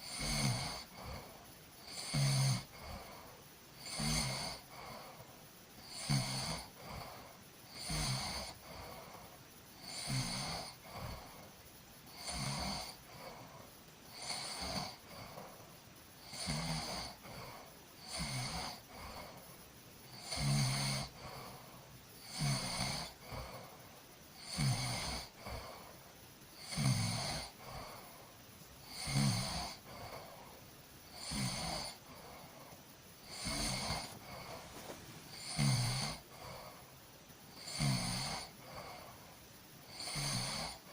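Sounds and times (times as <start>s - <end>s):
person snoring: 0.0s - 5.2s, 5.8s - 11.5s, 12.1s - 15.6s, 16.2s - 19.4s, 20.1s - 23.8s, 24.4s - 26.0s, 26.6s - 36.9s, 37.5s - 39.2s, 39.9s - 40.9s.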